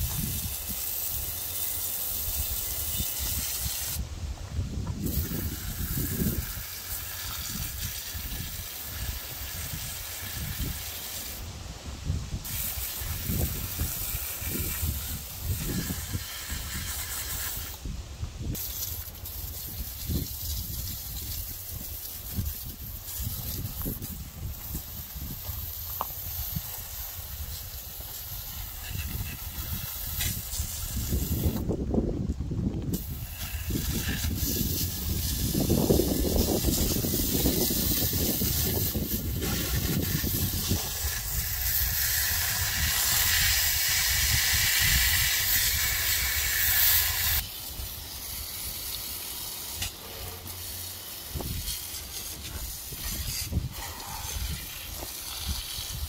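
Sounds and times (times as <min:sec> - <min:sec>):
hose spray hissing onto metal: 0:00.0 - 0:04.1, 0:04.7 - 0:31.9, 0:32.8 - 0:56.0.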